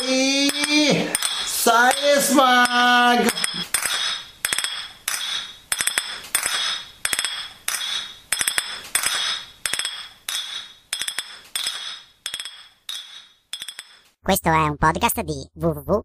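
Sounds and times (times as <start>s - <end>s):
spoon clinking against cup: 0.0s - 14.0s.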